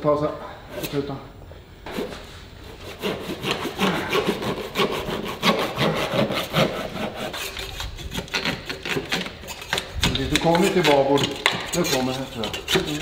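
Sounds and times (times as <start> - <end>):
hand saw rasping strokes: 1.9 - 13.0.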